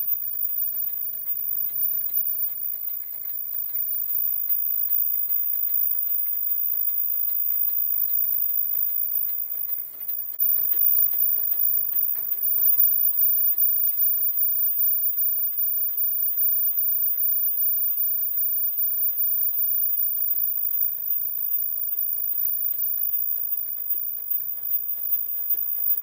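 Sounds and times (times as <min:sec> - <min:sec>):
machine clattering: 0:00.0 - 0:26.0.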